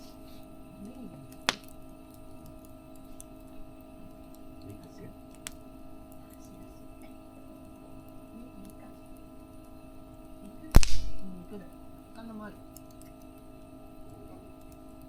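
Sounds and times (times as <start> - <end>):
campfire wood popping: 0.0 - 15.0
steady hum: 0.0 - 15.0.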